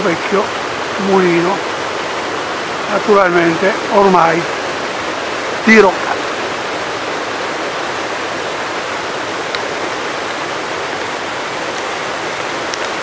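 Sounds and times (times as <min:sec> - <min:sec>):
river water rushing over weir: 0:00.0 - 0:13.0.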